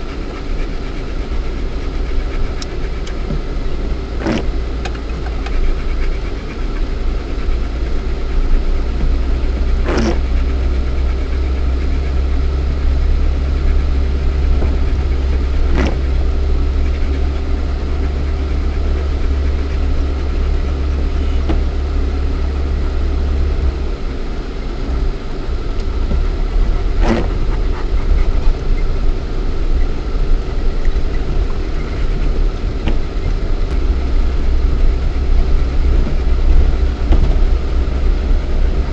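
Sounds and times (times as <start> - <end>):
car engine droning in cabin: 0.0 - 38.9.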